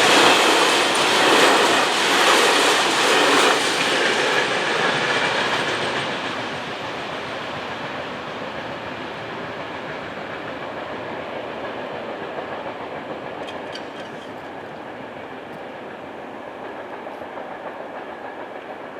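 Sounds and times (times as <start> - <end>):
train wagons rumbling over rails: 0.0 - 18.9.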